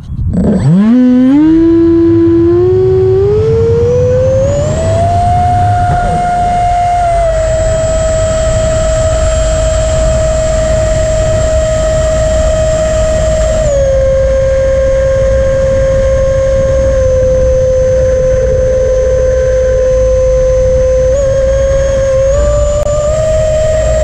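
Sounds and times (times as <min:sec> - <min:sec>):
electric ducted fan whine: 0:00.0 - 0:24.0
rolling rumble: 0:00.0 - 0:24.0
wind noise: 0:00.0 - 0:24.0.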